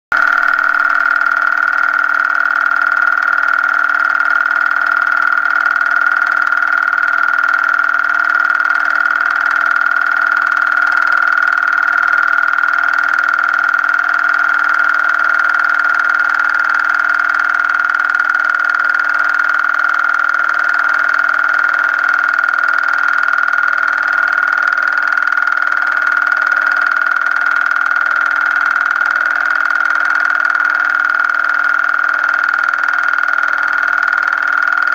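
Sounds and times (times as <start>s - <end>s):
high-pitched tone: 0.1s - 34.9s
weaker lower tone: 0.2s - 34.9s.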